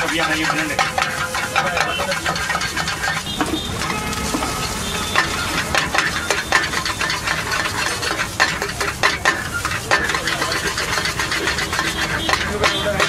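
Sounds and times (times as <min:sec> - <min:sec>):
food sizzling in a wok: 0:00.0 - 0:13.0
metal spatula scraping a pan: 0:00.0 - 0:13.0.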